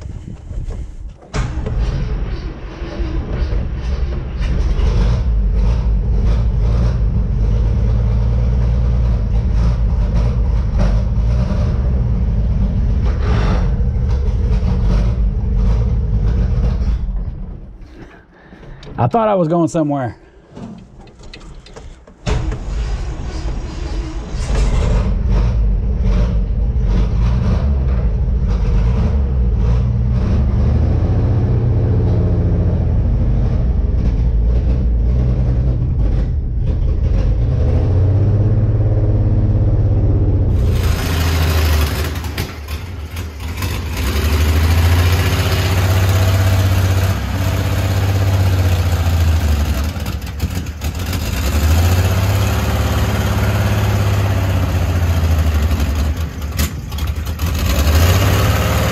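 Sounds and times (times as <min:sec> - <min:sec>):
truck engine running: 0:00.0 - 0:19.3, 0:20.4 - 0:58.9.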